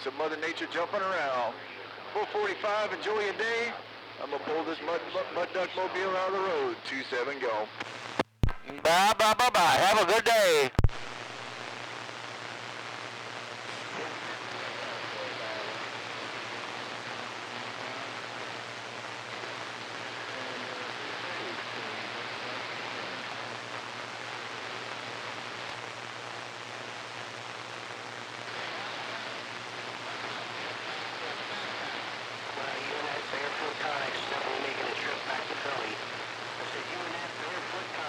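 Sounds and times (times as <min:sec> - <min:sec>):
radio static hiss: 0:00.0 - 0:38.0.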